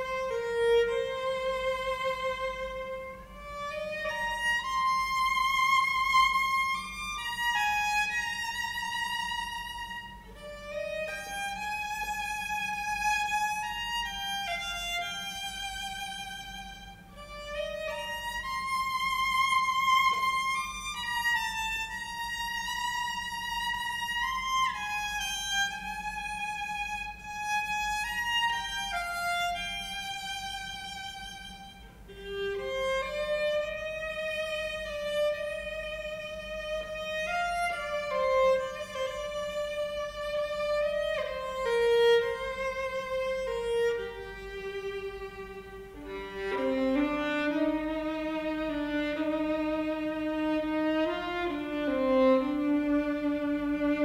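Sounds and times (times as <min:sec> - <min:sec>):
solo violin melody: 0:00.0 - 0:54.0.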